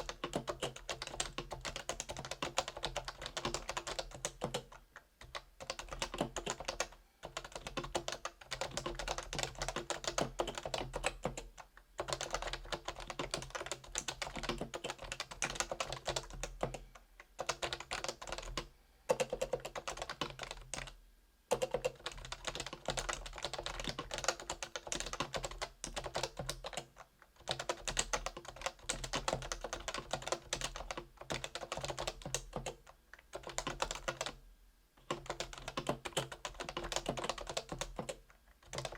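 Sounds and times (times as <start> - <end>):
keyboard typing: 0.0 - 34.4, 35.0 - 38.9.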